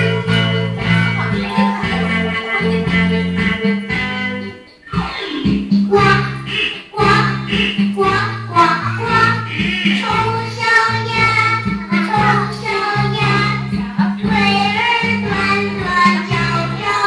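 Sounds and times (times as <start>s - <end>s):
instrumental accompaniment with bass: 0.0s - 17.0s
children singing: 0.1s - 17.0s.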